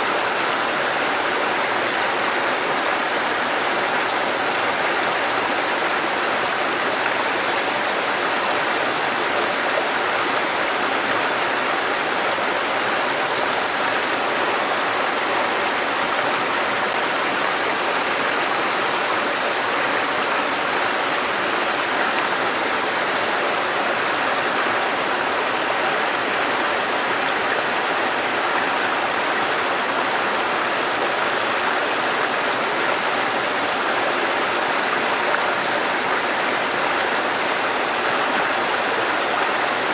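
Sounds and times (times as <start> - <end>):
shallow river babbling: 0.0 - 39.9.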